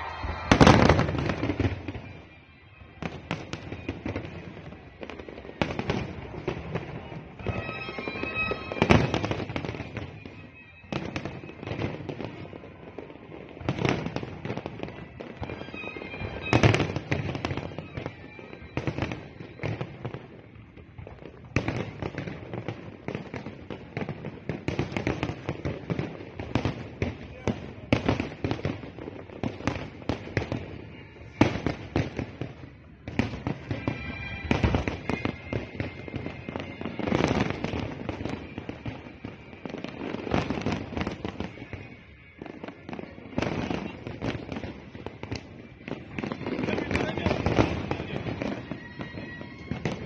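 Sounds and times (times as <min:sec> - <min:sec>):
fireworks bangs and crackling: 0:00.0 - 0:50.0
heavy fireworks booms: 0:00.0 - 0:50.0.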